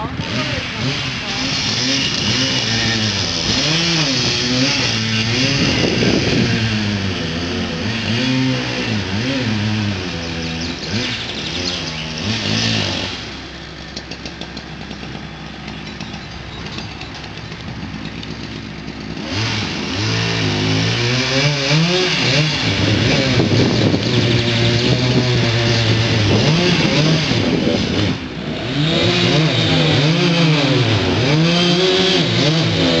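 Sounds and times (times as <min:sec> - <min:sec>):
chainsaw cutting wood: 0:00.0 - 0:33.0
engine revving: 0:00.0 - 0:33.0.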